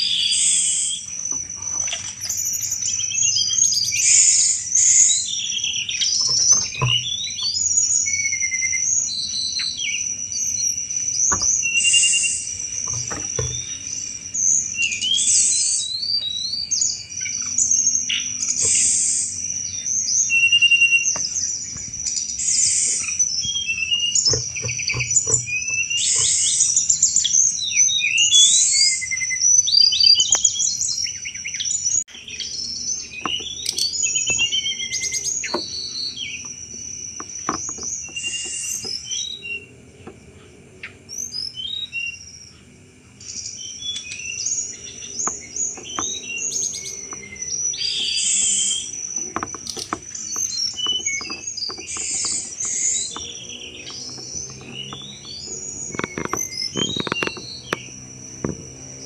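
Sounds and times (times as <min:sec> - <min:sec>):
bird chirping and rattling: 0:00.0 - 0:42.1, 0:43.6 - 0:59.0.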